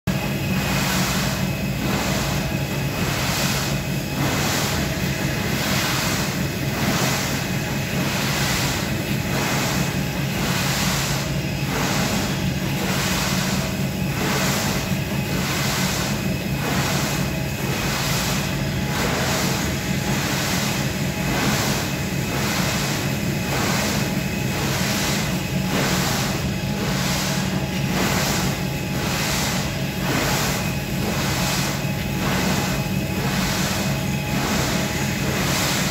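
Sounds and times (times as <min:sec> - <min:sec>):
motor and belt hum: 0:00.1 - 0:35.9.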